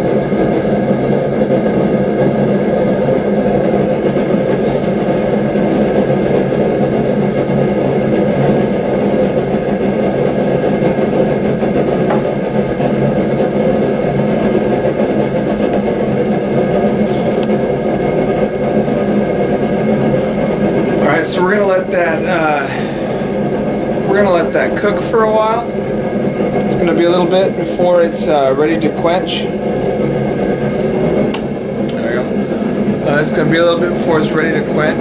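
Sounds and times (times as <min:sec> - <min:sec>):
forge humming: 0:00.0 - 0:35.0.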